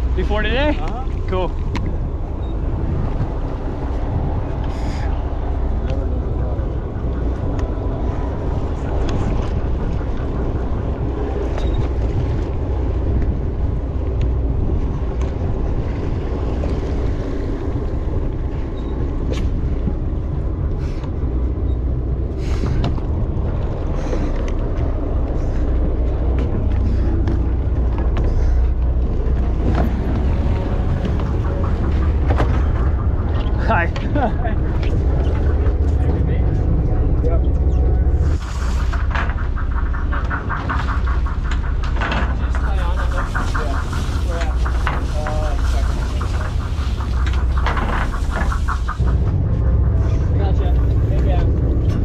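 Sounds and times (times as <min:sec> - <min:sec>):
boat engine rumbling: 0:00.0 - 0:52.0
water along hull: 0:00.0 - 0:52.0
wind: 0:00.0 - 0:52.0.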